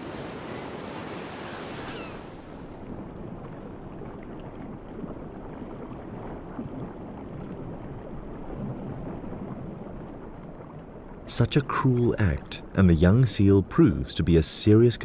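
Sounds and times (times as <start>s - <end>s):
rushing sea water: 0.0s - 15.0s
wind: 0.0s - 15.0s.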